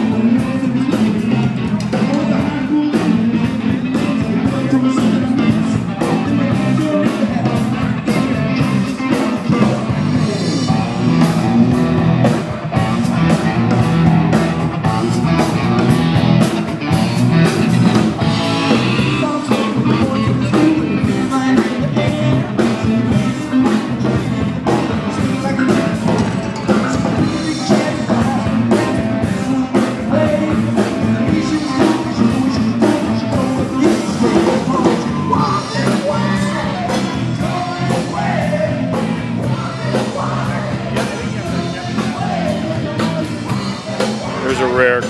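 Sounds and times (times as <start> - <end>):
electric guitar: 0.0 - 45.0
live rock band playing: 0.0 - 45.0
person singing: 0.0 - 45.0.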